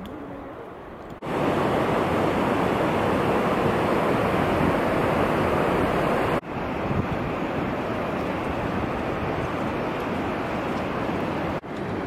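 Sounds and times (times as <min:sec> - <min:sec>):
river rushing over rocks: 0:01.2 - 0:12.0.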